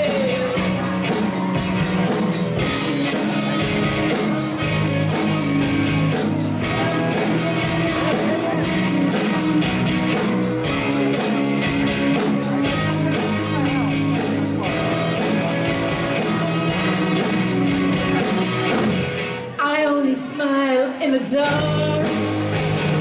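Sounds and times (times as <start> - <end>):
steady drum beat: 0.0 - 19.3
guitars: 0.0 - 23.0.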